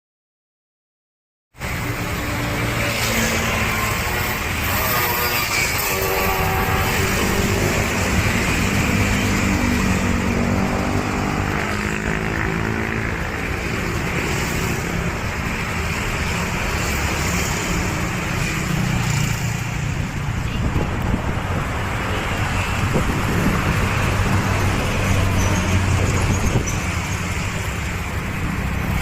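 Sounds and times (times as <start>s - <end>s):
road noise: 1.5s - 29.0s.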